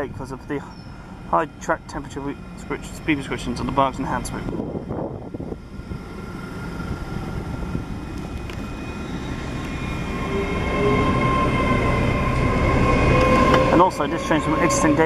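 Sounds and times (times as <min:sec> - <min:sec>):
train rumble passing: 0:00.0 - 0:15.0
train whine: 0:00.0 - 0:15.0.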